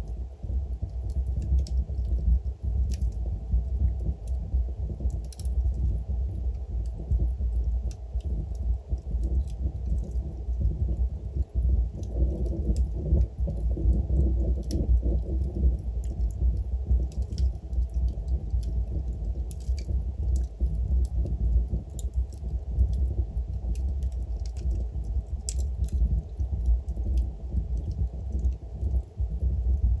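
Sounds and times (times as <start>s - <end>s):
logs crackling and popping: 0.0s - 30.0s
low rumble of flames: 0.0s - 30.0s.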